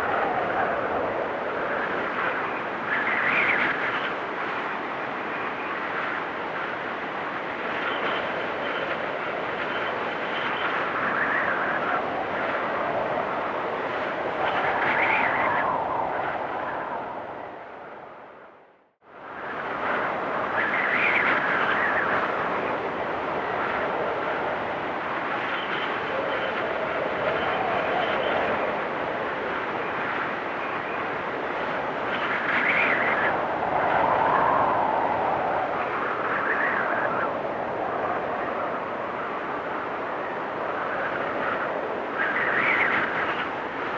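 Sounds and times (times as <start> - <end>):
blizzard wind gusting: 0.0 - 43.9.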